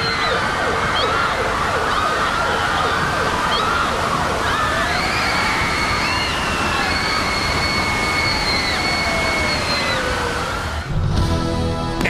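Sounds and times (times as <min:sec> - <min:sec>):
rushing flood water: 0:00.0 - 0:10.9
emergency sirens wailing: 0:00.0 - 0:11.0.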